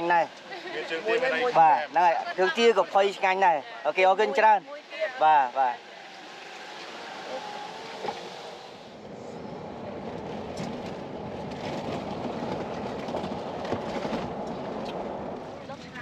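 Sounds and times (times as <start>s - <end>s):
rumbling vehicle noise: 0.0s - 16.0s.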